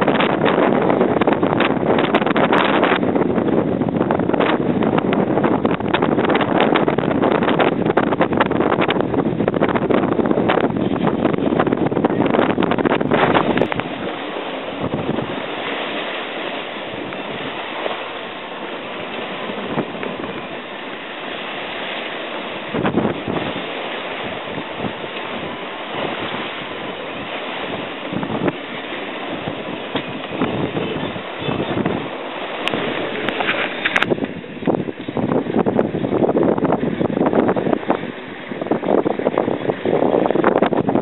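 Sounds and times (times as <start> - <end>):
sea water rushing along hull: 0.0 - 41.0
wind buffeting microphone: 0.0 - 41.0.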